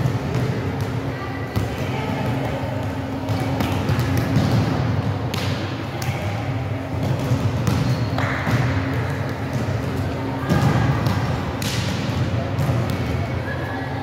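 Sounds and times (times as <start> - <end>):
volleyballs bouncing on wooden floor: 0.0 - 6.2, 6.9 - 13.2
low hall hum: 0.0 - 14.0.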